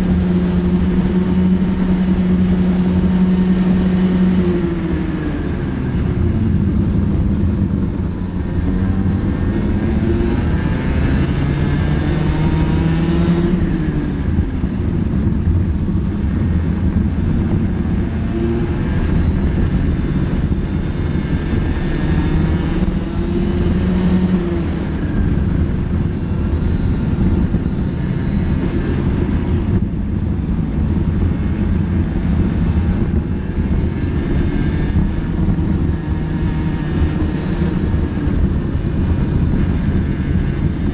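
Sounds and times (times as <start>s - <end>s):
go-kart engine accelerating: 0.0s - 40.9s.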